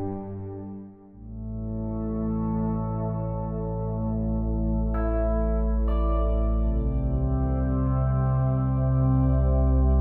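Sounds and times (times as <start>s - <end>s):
ambient music with held chords: 0.0s - 10.0s.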